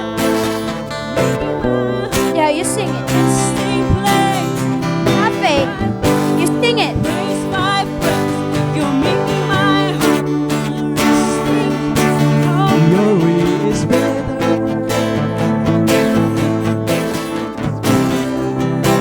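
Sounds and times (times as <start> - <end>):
strummed acoustic guitar: 0.0 - 19.0
worship band music: 0.0 - 19.0.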